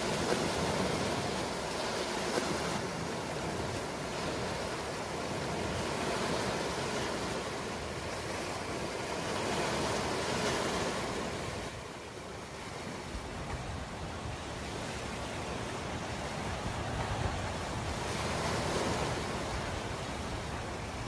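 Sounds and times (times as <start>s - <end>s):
ocean waves breaking on shore: 0.0s - 21.0s.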